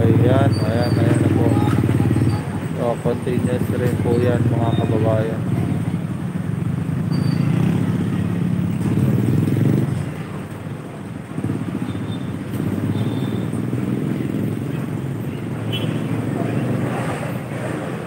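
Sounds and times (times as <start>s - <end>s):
engines rumbling: 0.0s - 18.0s.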